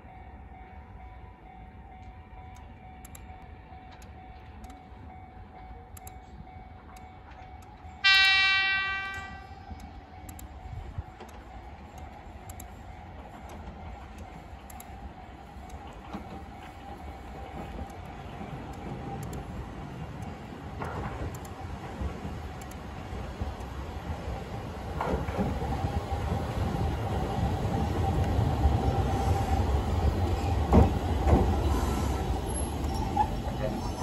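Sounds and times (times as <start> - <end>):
distant train rumbling: 0.0 - 34.0.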